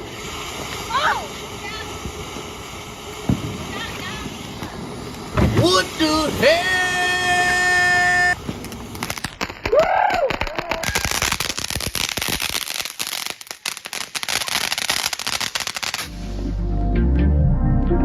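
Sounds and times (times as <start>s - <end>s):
fireworks crackling pops: 0.0s - 16.3s.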